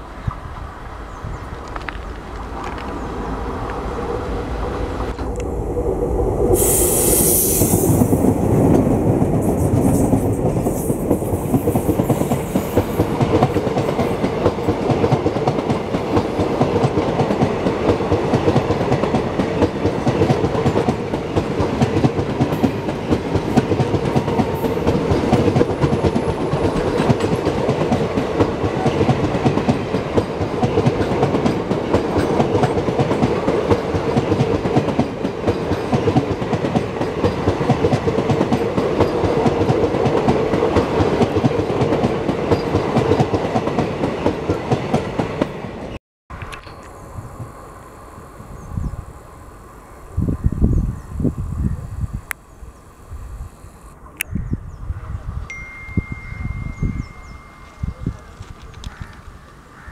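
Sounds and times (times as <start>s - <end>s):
diesel locomotive passing: 0.0s - 54.2s.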